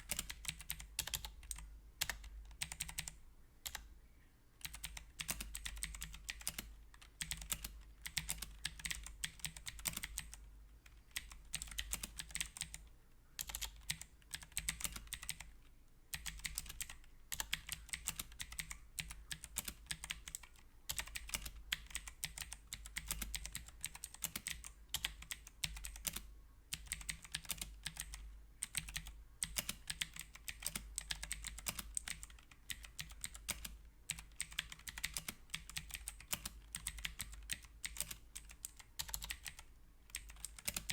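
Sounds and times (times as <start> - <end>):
clicky mechanical keyboard typing: 0.0 - 3.9, 4.6 - 15.5, 16.1 - 40.9.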